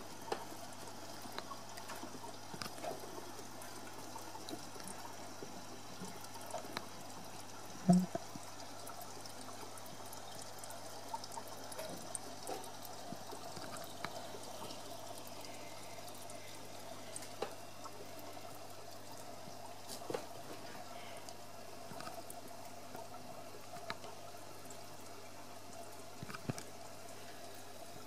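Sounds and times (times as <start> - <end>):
water trickling and splashing: 0.0 - 28.0
water drips and plops: 0.1 - 28.0.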